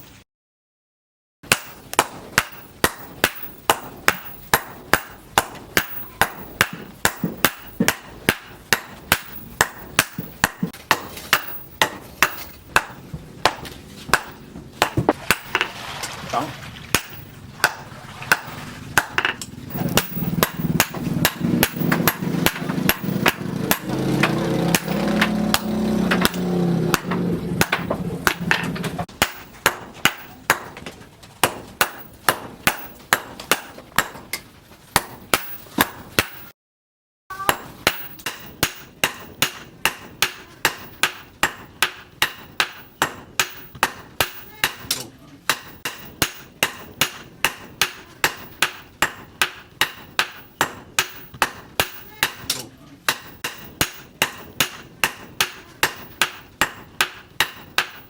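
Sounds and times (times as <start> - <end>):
hammer striking hot steel on anvil: 1.5 - 15.7, 16.9 - 34.4, 35.0 - 36.5, 37.3 - 58.0.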